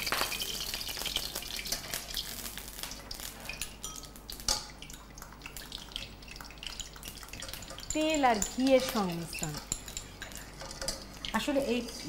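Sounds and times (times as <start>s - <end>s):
ghee crackling in hot oil: 0.0s - 12.0s.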